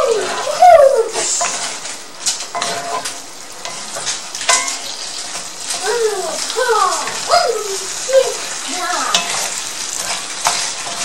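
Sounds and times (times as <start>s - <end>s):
spatula scraping a pan: 0.0s - 11.0s
stir-fry sizzling in a skillet: 0.0s - 11.0s.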